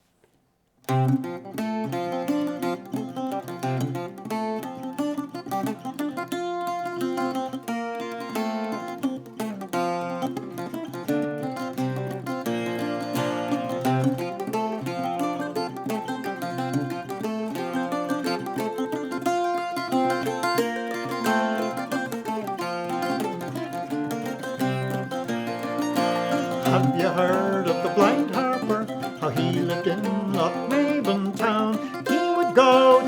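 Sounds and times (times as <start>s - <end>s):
bouzouki and mandolin playing: 0.9s - 33.0s.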